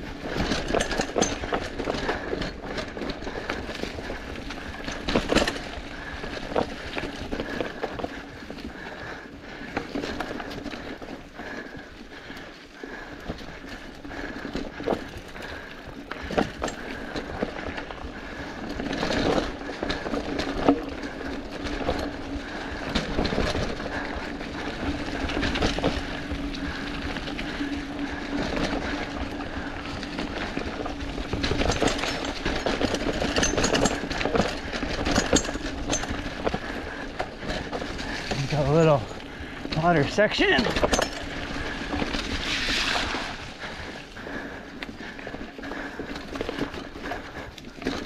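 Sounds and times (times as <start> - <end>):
bike rattling over bumps: 0.0 - 48.0
bike tyres crunching over leaves: 0.0 - 48.0.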